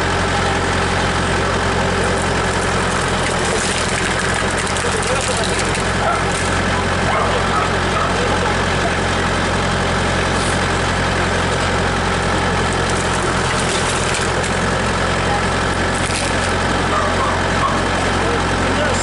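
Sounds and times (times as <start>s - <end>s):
tractor engine running steadily: 0.0s - 19.0s.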